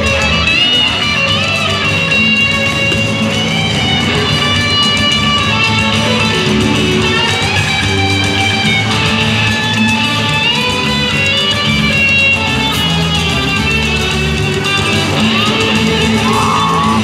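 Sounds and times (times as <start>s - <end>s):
dance music with strummed strings: 0.0s - 17.0s.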